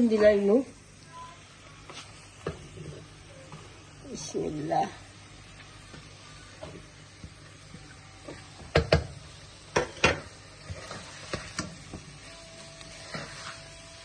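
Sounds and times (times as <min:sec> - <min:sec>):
faint sizzle of frying food: 0:00.0 - 0:14.0.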